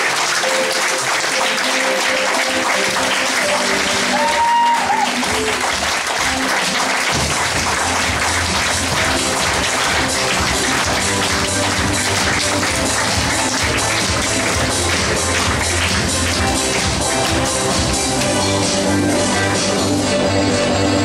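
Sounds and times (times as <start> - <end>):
audience applause: 0.0 - 18.4
music playing: 0.0 - 21.0.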